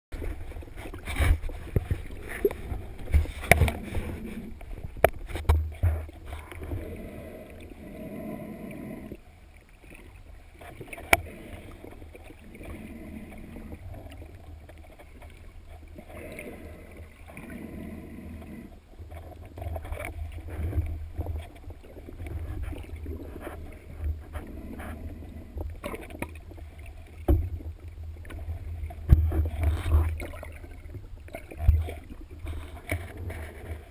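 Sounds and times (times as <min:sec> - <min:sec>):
muffled underwater water rumble: 0:00.1 - 0:33.9.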